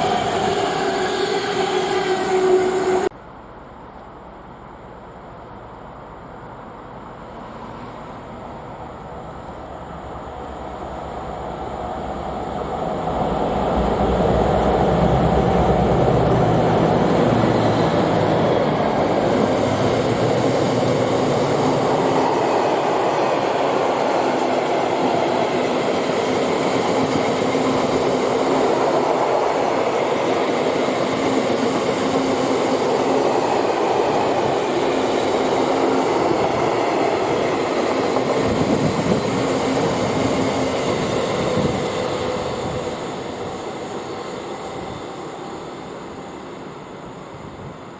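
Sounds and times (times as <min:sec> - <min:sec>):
diesel locomotive engine: 0:00.0 - 0:47.9.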